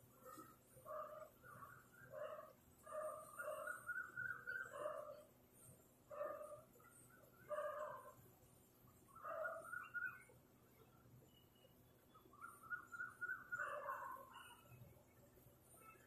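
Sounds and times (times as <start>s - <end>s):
faint high bird chirps: 0.1s - 16.0s.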